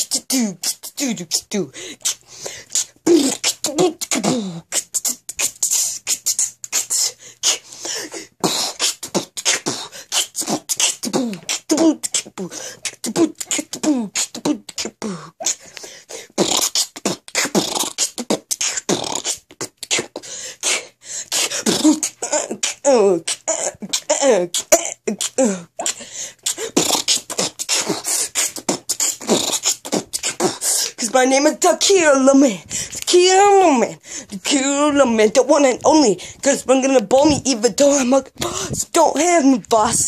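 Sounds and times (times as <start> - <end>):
boy beatboxing: 0.0 - 40.0.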